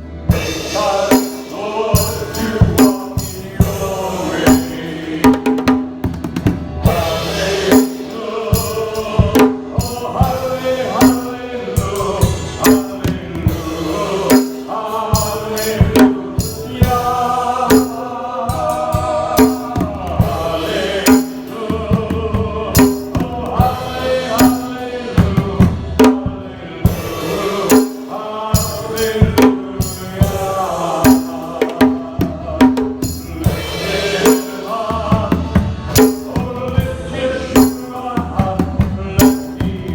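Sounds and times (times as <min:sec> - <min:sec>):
choir singing: 0:00.0 - 0:39.9
drums and tambourine: 0:00.0 - 0:39.9.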